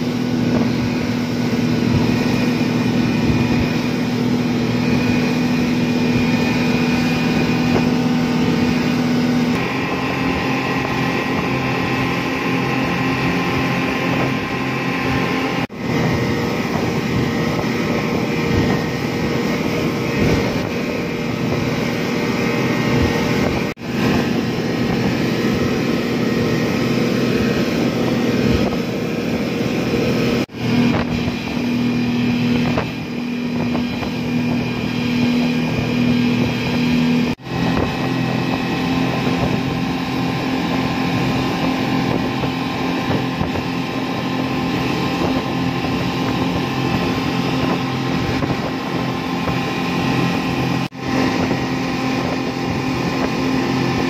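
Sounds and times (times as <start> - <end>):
outboard motors droning: 0.0 - 54.0
water rushing from wake: 0.0 - 54.0.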